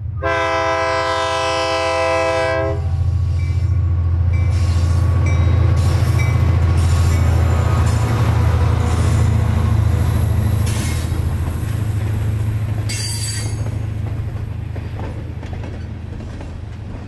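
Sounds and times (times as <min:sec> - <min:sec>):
diesel locomotive rumble: 0:00.0 - 0:17.0
train wheels clattering on rails: 0:03.0 - 0:17.0.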